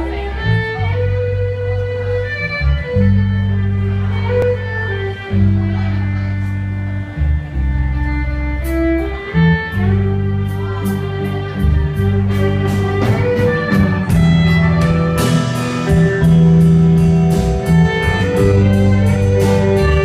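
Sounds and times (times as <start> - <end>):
fiddle melody: 0.0 - 20.0
live rock band: 0.0 - 20.0.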